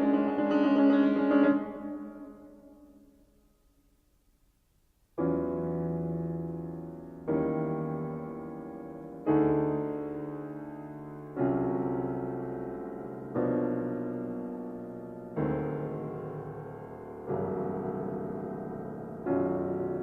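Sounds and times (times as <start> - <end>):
slow piano chords: 0.0 - 4.0, 5.1 - 20.0.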